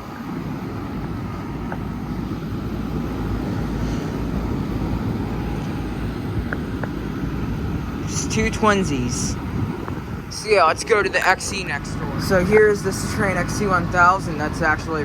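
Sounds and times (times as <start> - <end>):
air conditioner units rushing: 0.0 - 15.0.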